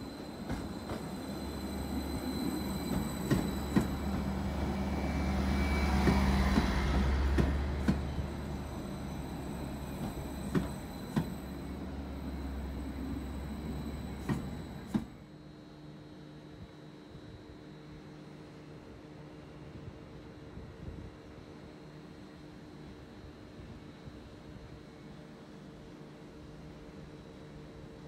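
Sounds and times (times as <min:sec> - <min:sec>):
train passing with low hum: 0:00.0 - 0:28.0.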